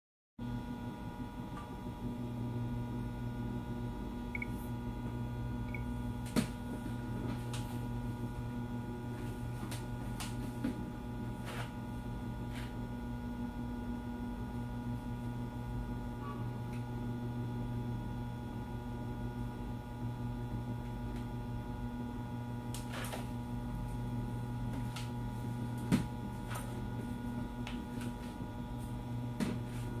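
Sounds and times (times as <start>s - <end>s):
electrical hum: 0.4s - 30.0s.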